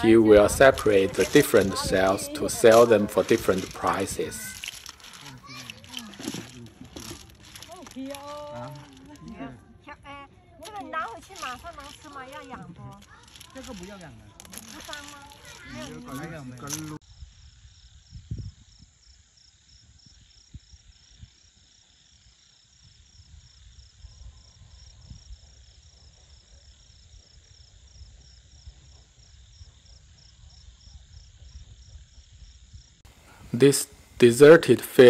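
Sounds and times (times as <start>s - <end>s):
cricket chirping: 0.0s - 35.0s.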